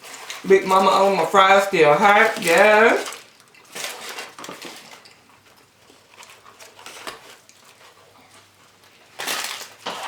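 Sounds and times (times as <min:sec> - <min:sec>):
food wrappers rustling: 0:00.0 - 0:10.0.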